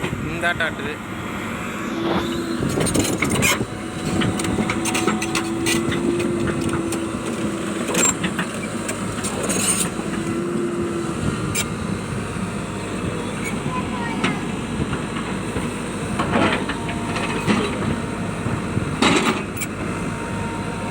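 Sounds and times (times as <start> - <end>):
diesel engine whining under load: 0.0 - 20.9.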